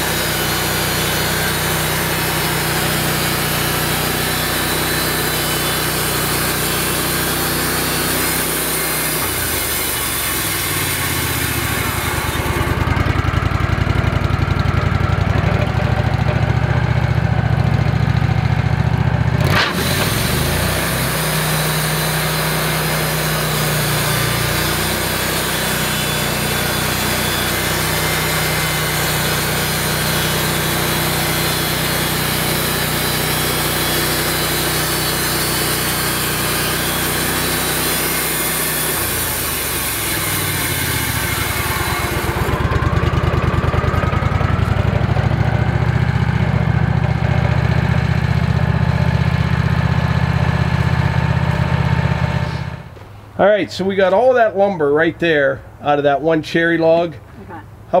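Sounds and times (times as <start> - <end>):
sawmill engine running: 0.0 - 55.3.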